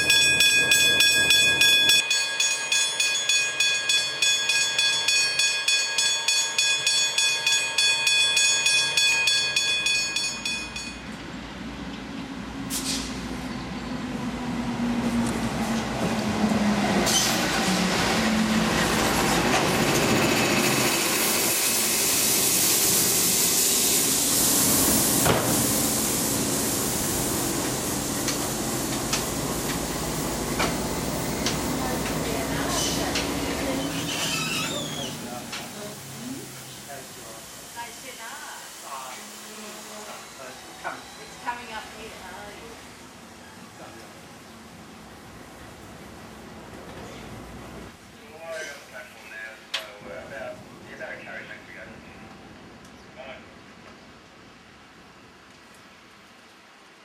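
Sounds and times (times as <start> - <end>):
diesel locomotive engine: 0.0 - 48.2
train carriages rolling past: 0.0 - 55.1.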